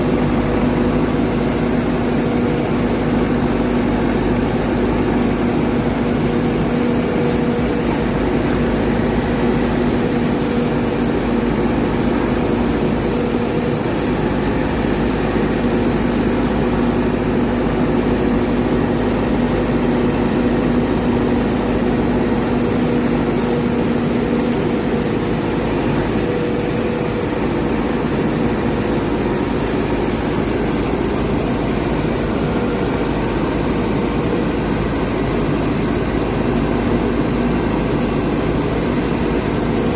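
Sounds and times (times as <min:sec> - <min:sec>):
diesel engine running: 0:00.0 - 0:39.9
high wavering whine: 0:00.0 - 0:39.9.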